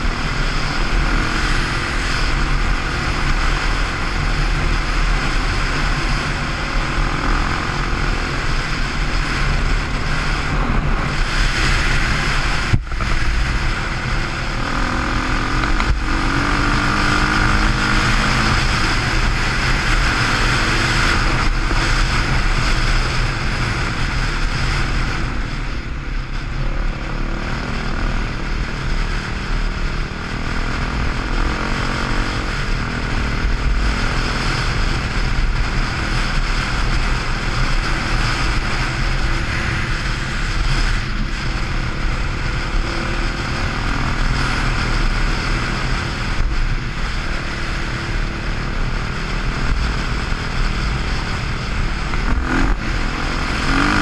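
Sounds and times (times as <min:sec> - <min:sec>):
dirt bike engine running: 0:00.0 - 0:54.0
wind rushing over camera: 0:00.0 - 0:54.0.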